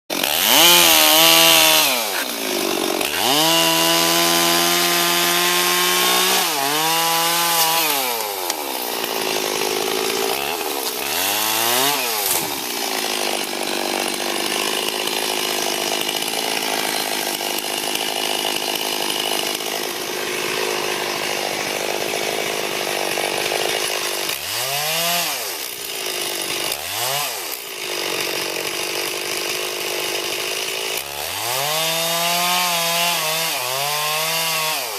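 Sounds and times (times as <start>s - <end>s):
chainsaw revving and cutting: 0.1s - 34.9s.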